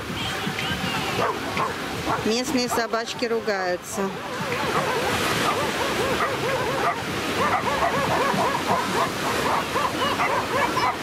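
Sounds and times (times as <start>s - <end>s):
dogs barking and yelping: 1.2s - 3.2s, 3.8s - 11.0s.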